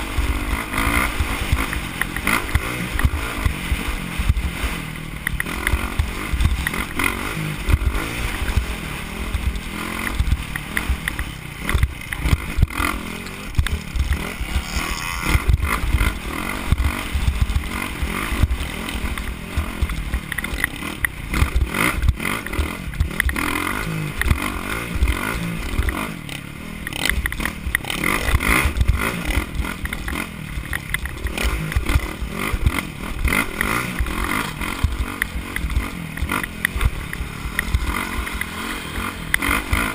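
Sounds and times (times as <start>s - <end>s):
motorcycle engine revving: 0.0s - 39.9s
motorcycle rattling over dirt: 0.0s - 39.9s.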